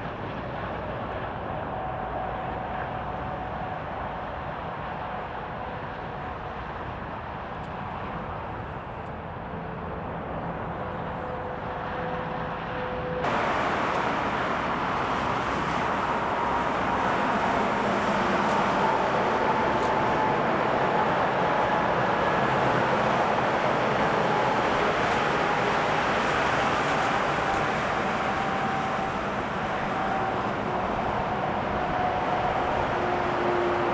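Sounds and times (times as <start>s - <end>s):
jet engines running: 0.0s - 33.9s.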